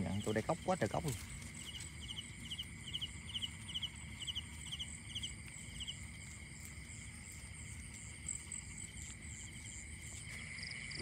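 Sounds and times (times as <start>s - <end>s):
high-pitched insect trill: 0.0s - 11.0s.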